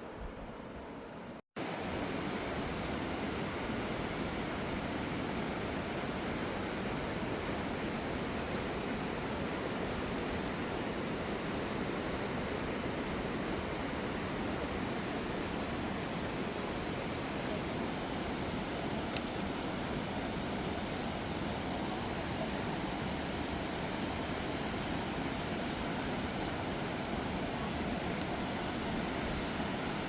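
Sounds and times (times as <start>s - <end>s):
falling water rushing: 1.6s - 30.0s.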